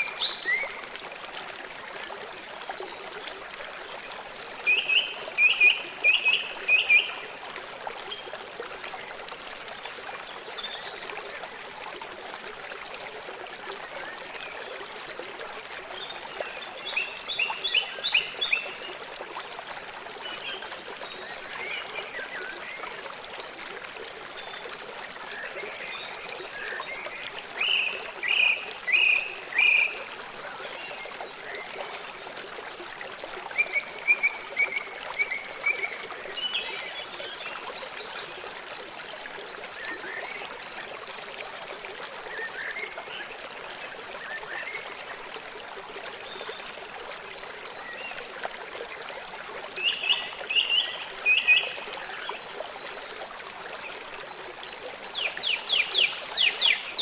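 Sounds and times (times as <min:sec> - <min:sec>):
forest stream rushing: 0:00.0 - 0:57.0.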